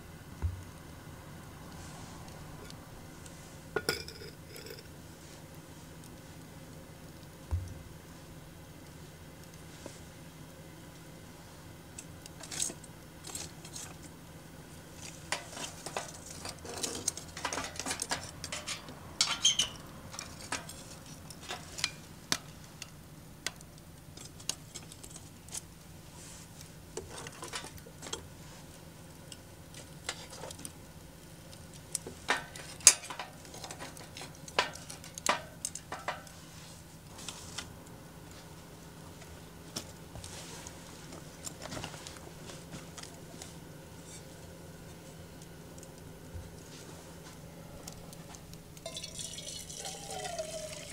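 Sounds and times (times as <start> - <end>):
charcoal fire crackling: 0.0 - 50.9.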